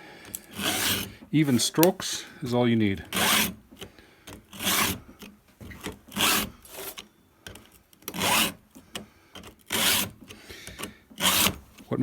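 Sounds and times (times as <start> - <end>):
file rasping on chainsaw chain: 0.2 - 1.9, 2.9 - 11.9.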